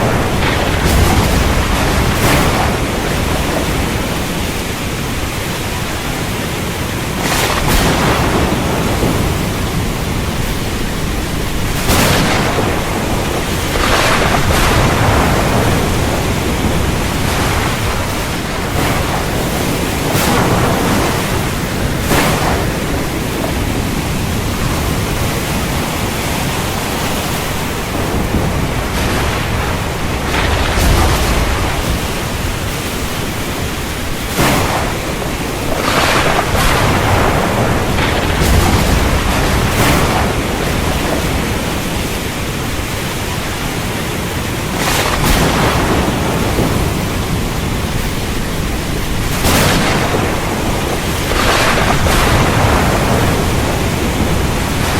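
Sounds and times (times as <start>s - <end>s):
sharp thunder cracks: 0.0s - 43.9s, 44.6s - 54.9s
heavy rain: 0.0s - 54.9s
low rumble of thunder: 0.0s - 54.9s.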